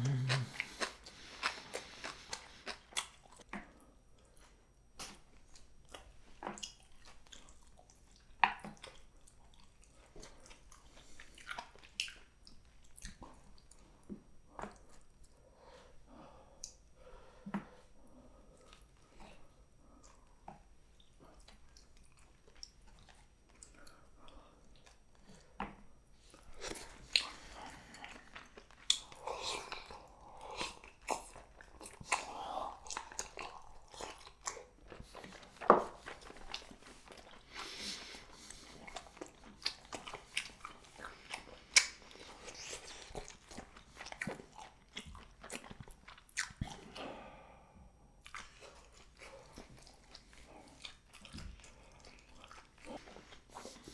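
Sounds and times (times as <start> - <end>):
wet mouth clicks and chewing: 0.0 - 17.8, 18.5 - 47.5, 48.2 - 53.9.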